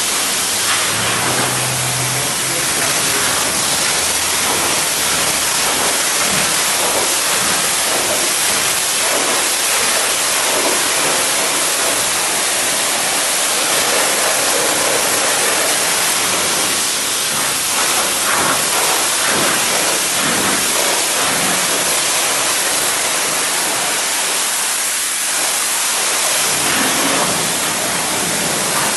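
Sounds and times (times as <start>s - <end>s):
water spraying onto car: 0.0s - 28.9s.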